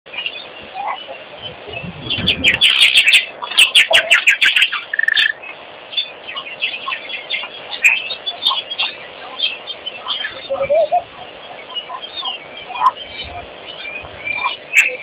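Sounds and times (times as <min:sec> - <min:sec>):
starlings chirping: 0:00.1 - 0:15.0.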